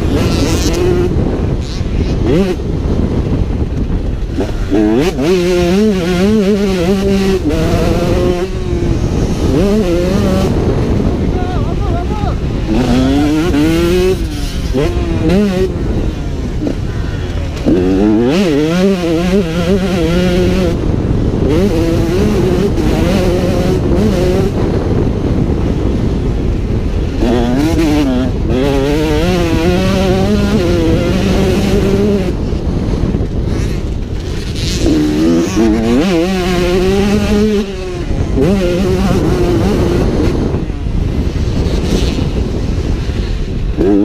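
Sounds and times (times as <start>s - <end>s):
motocross engine revving: 0.0s - 44.0s
wind rush on microphone: 0.0s - 44.0s.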